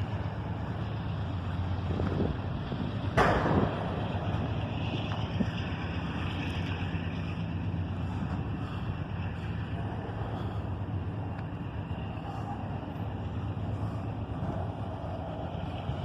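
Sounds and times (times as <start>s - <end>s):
freight train low rumble: 0.0s - 16.0s.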